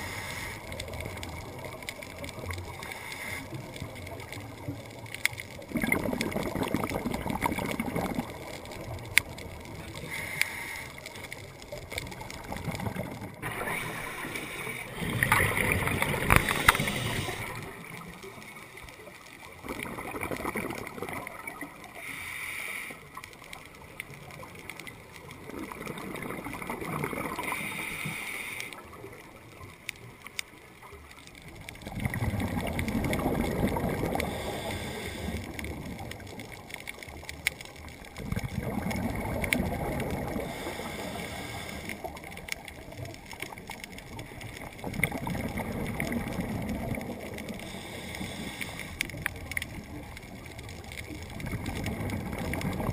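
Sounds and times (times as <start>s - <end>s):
quiet regulator hiss: 0.0s - 5.6s, 8.2s - 19.6s, 21.3s - 25.8s, 27.3s - 31.8s, 32.6s - 38.2s, 39.2s - 45.6s, 46.4s - 52.9s
scuba exhaust bubbles gurgling: 0.0s - 52.9s.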